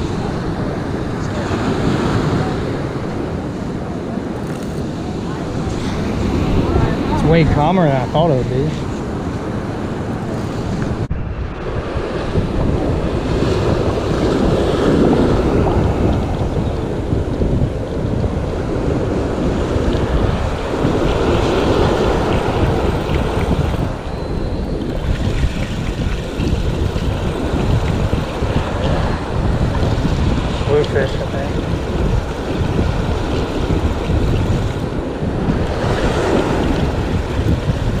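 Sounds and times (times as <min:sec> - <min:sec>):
surf breaking on beach: 0:00.0 - 0:38.0
wind buffeting microphone: 0:00.0 - 0:38.0.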